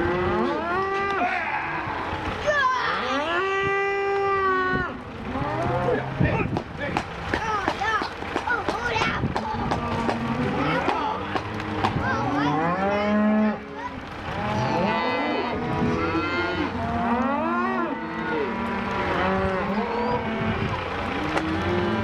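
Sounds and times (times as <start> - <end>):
cattle mooing and bawling: 0.0 - 6.3, 9.6 - 22.0.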